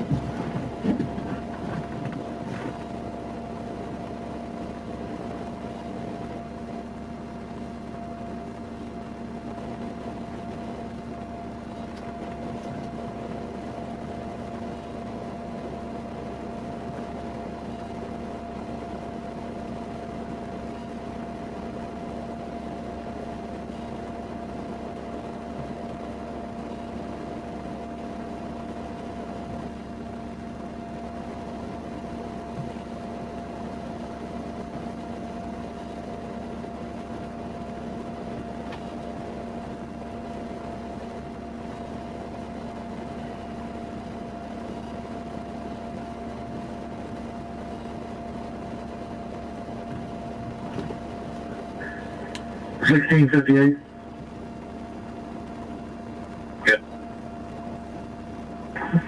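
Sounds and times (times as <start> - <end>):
mechanical hum and hiss: 0.0 - 59.0.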